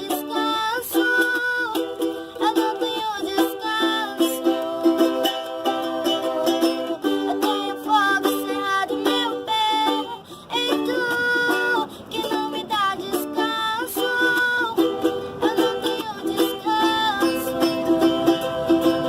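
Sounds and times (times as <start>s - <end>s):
plucked string instrument music: 0.0s - 19.0s.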